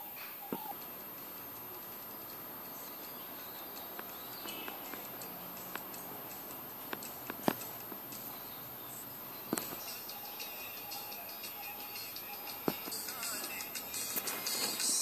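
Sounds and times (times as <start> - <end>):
faint steady hiss: 0.0 - 15.0
sharp clicks and taps: 0.5 - 8.4, 9.5 - 10.2, 10.9 - 14.9.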